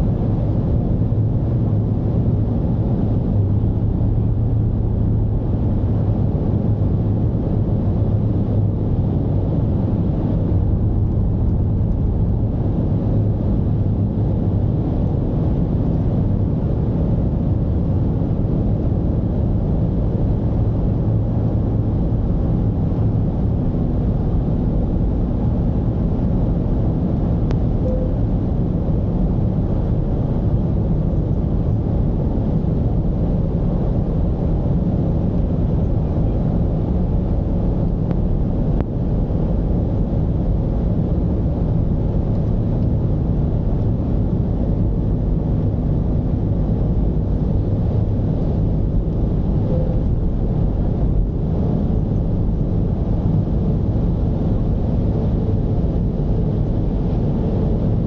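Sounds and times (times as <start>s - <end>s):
diesel van engine drone: 0.0s - 58.0s
road rumble: 0.0s - 58.0s.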